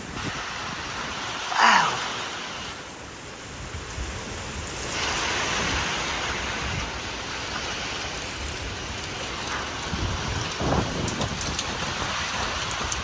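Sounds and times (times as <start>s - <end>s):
heavy rain: 0.0s - 13.0s
strong wind gusts: 0.0s - 13.0s.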